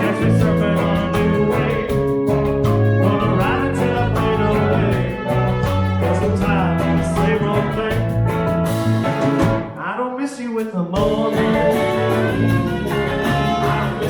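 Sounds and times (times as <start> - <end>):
live rock band playing: 0.0 - 9.8, 11.0 - 14.0.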